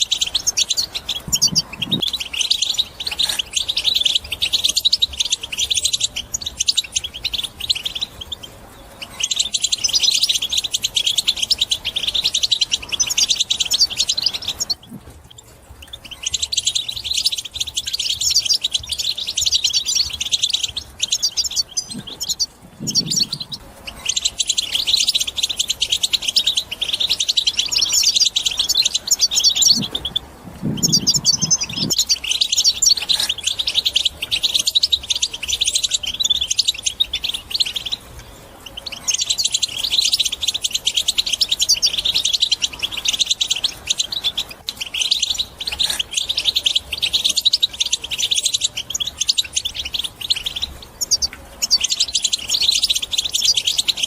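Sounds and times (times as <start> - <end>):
finch twittering song: 0.0 - 54.0.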